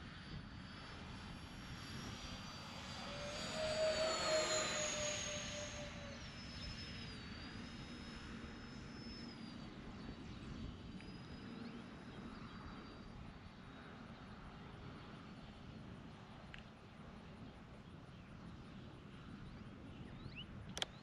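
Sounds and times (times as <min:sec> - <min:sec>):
distant electric ducted fan whine: 0:00.0 - 0:21.0.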